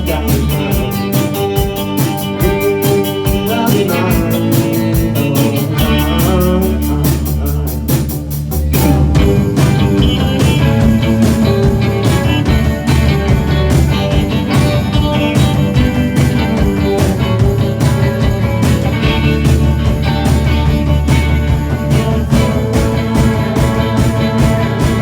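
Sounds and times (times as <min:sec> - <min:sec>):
electric guitar: 0:00.0 - 0:25.0
rock band playing live: 0:00.0 - 0:25.0.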